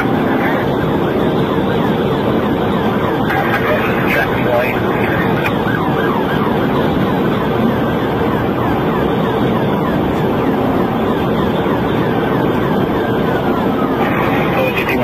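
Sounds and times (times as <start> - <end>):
road and engine noise: 0.0 - 15.0
siren sweeping: 0.0 - 15.0.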